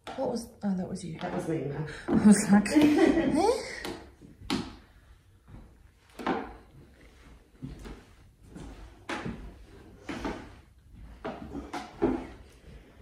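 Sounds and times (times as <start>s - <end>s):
slow footsteps: 1.0s - 13.0s.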